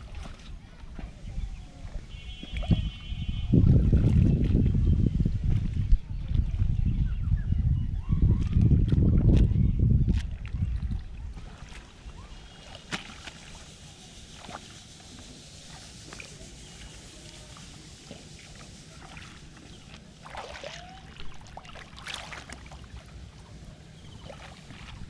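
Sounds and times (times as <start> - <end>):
shallow water sloshing and splashing: 0.0 - 6.8, 8.4 - 25.0.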